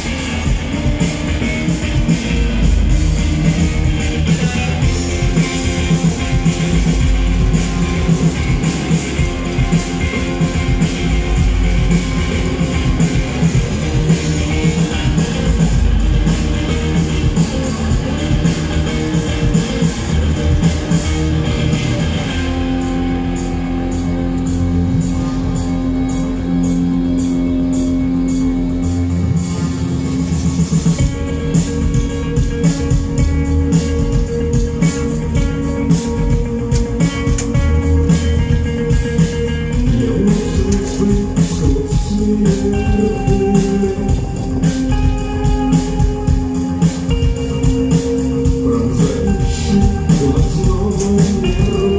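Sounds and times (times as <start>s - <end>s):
bass guitar: 0.0s - 51.9s
electric guitar: 0.0s - 51.9s
rock band playing: 0.0s - 51.9s.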